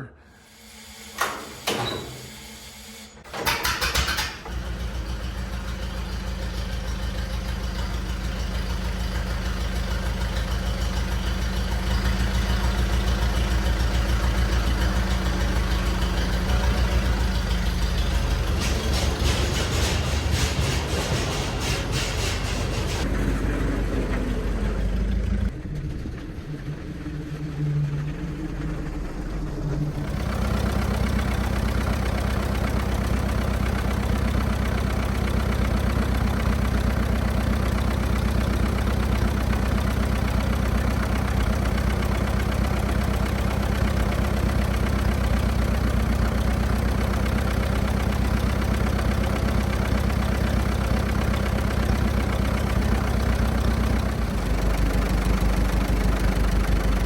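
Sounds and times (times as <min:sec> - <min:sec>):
tractor engine idling: 0:03.2 - 0:57.0.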